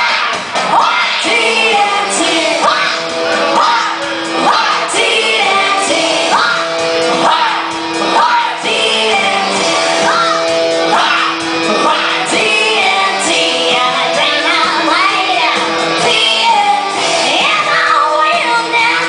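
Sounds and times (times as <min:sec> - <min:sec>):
song with sung vocals: 0:00.0 - 0:19.0.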